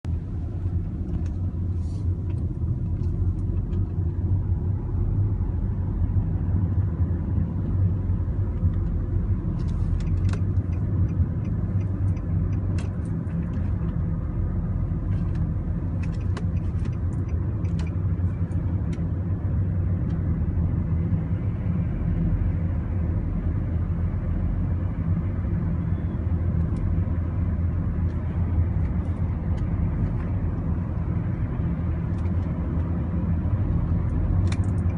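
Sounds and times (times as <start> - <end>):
motor vehicle rumbling: 0.0 - 34.9.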